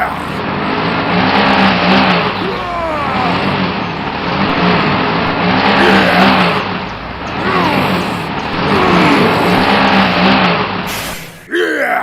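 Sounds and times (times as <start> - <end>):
motor engine revving: 0.0 - 11.5.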